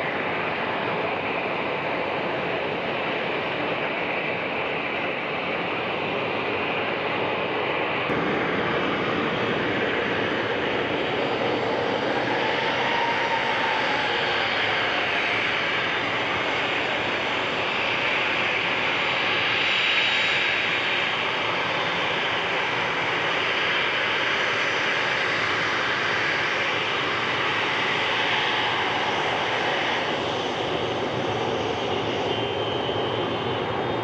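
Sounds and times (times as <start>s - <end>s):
jet engines rushing: 0.0s - 34.0s.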